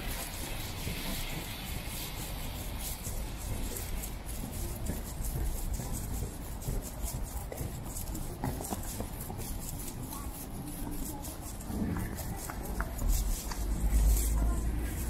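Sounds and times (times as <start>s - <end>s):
footsteps on wet pavement: 0.0s - 15.0s
low rumble of traffic: 0.0s - 15.0s
passers-by voices: 0.0s - 15.0s.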